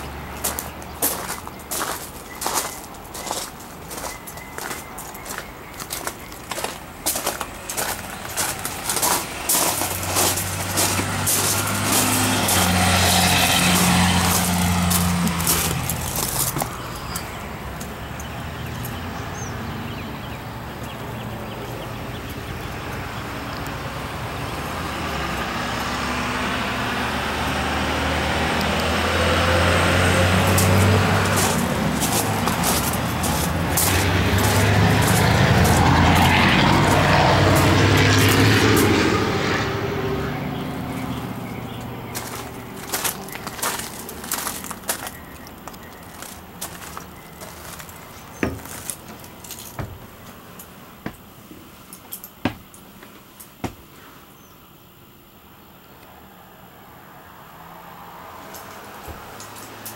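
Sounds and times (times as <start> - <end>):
vehicle engine humming: 0.0 - 53.8, 56.6 - 59.9.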